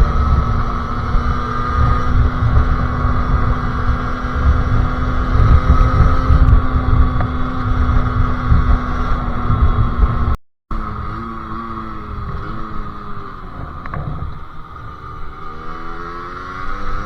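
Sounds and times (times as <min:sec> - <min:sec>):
two-stroke engine running: 0:00.0 - 0:17.0
wind rumble on microphone: 0:00.0 - 0:17.0.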